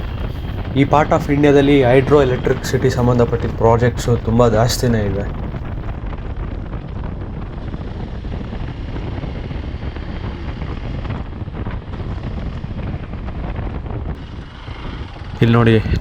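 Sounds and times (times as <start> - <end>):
motorcycle engine: 0.0 - 6.0, 7.5 - 16.0
road noise: 0.0 - 16.0
wind buffeting microphone: 0.0 - 16.0.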